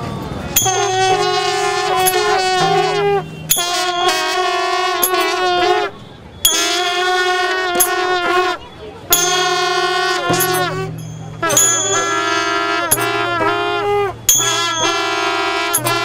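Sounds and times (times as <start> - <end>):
wind instruments playing held notes: 0.3 - 16.0.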